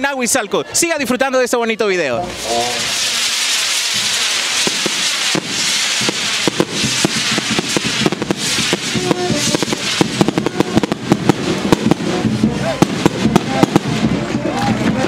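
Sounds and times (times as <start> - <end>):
fireworks crackling and popping: 2.2 - 15.0.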